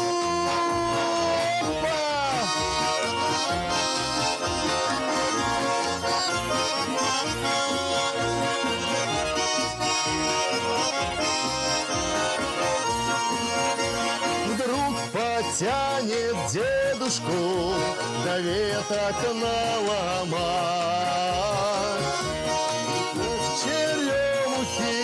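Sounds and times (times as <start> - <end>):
button accordion playing: 0.0 - 25.0.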